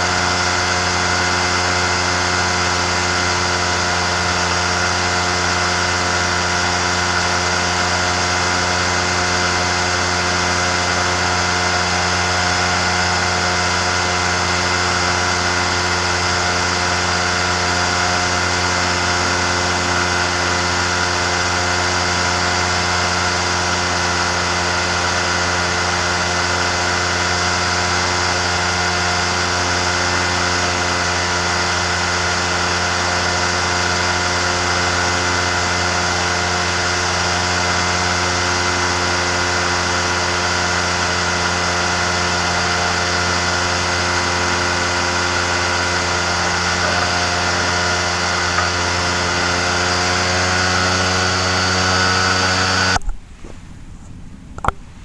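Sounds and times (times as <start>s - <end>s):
aircraft engine and propeller droning: 0.0s - 55.0s.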